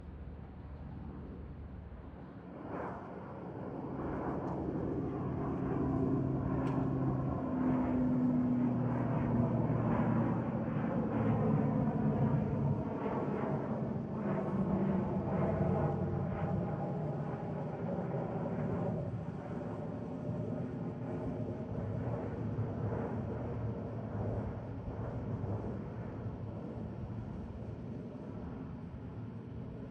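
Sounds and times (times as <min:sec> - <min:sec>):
turboprop aircraft taking off: 0:00.1 - 0:29.9.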